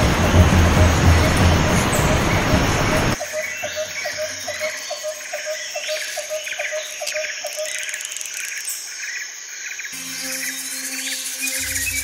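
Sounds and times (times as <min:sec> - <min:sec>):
birds chirping and trilling: 0:00.0 - 0:12.0
insects: 0:00.0 - 0:12.0.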